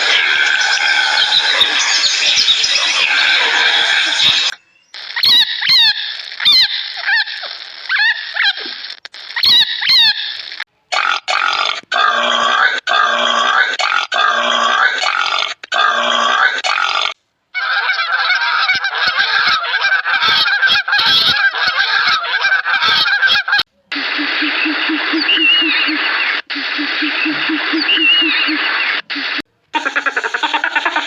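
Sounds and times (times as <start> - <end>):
animal calls: 0.0 - 16.9, 17.6 - 31.0.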